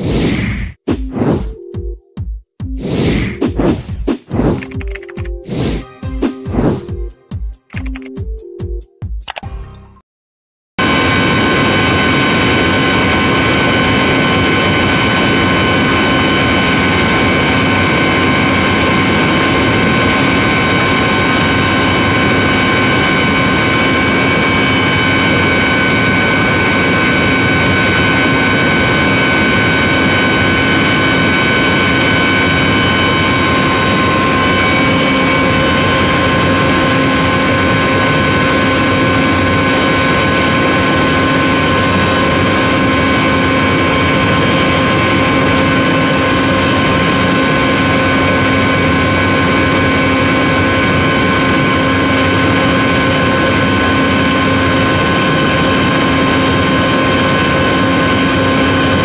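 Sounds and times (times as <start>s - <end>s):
high whine: 0.0s - 8.5s, 10.8s - 59.0s
electric motor and pump running: 10.8s - 59.0s.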